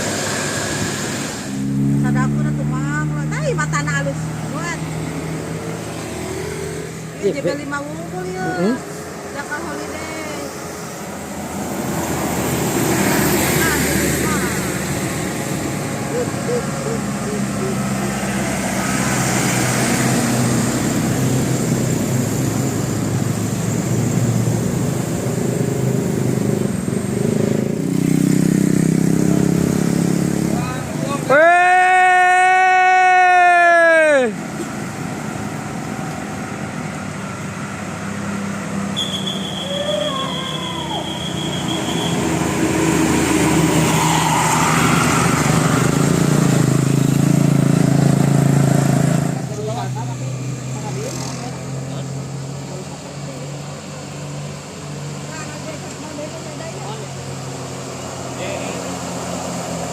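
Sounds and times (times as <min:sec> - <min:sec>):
vehicle engines passing: 0:00.0 - 0:59.9.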